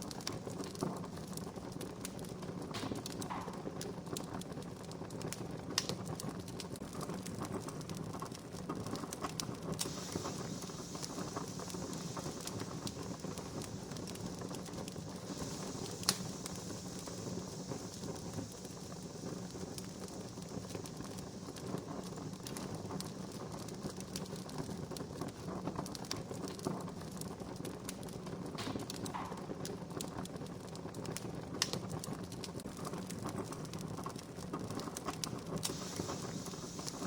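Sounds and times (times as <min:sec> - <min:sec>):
campfire crackling: 0:00.0 - 0:37.0
sharp fire pops: 0:00.0 - 0:37.0.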